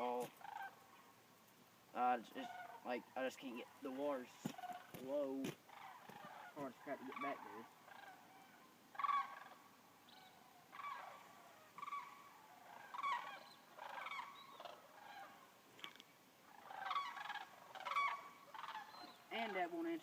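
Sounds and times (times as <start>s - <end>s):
waterfowl calling: 0.0s - 1.1s, 2.0s - 20.0s.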